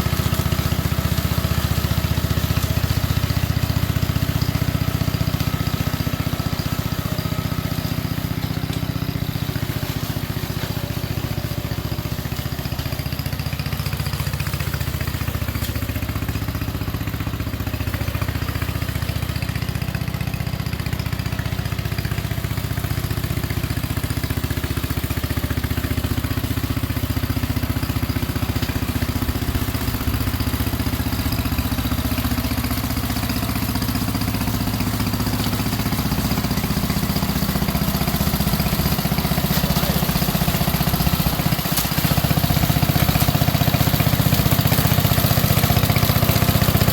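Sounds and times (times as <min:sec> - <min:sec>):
riding mower engine running: 0:00.0 - 0:46.9.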